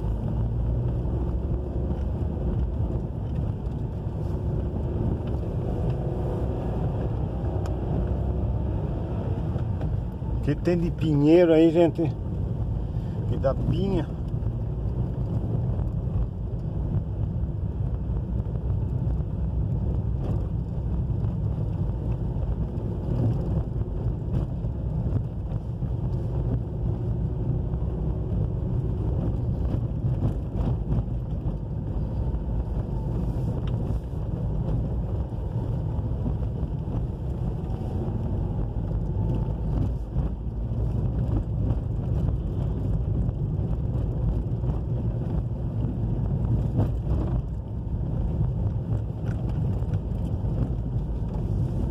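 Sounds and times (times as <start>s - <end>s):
wind noise on microphone: 0.0s - 11.0s, 11.9s - 51.9s
car engine and tyres rumbling: 0.0s - 51.9s.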